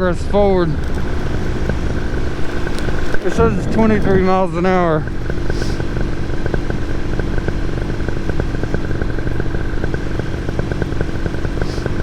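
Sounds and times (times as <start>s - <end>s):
paramotor engine drone: 0.0s - 12.0s
fast regular ticking: 0.3s - 12.0s.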